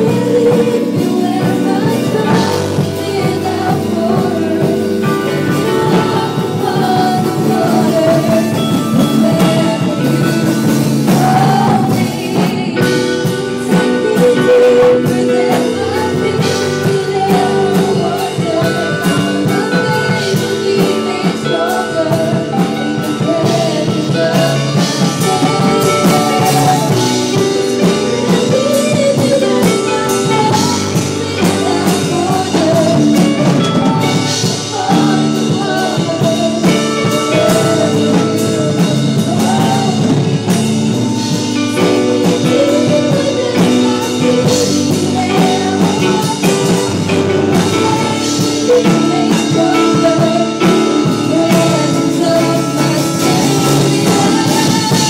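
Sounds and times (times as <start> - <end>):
drums: 0.0 - 55.0
electric guitar: 0.0 - 55.0
women singing into microphones: 0.0 - 55.0.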